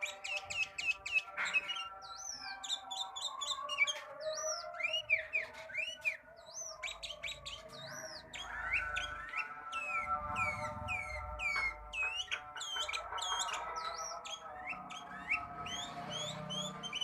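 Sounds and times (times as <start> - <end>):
songbird chirping and whistling: 0.0 - 17.0.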